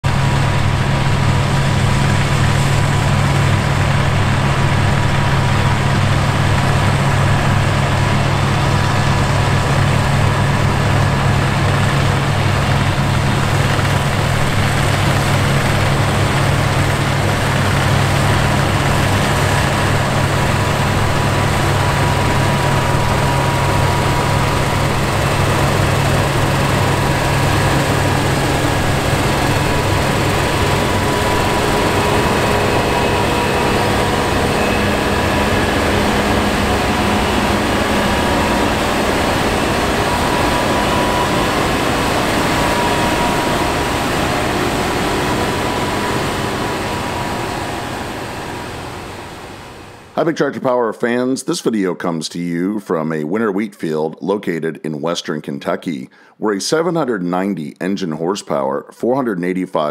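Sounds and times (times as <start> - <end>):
combine harvester engine droning: 0.0 - 50.5.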